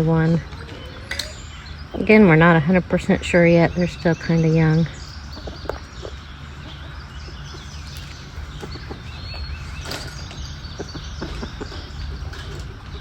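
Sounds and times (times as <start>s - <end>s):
birds chirping: 0.0s - 13.0s
low background hum: 0.0s - 13.0s.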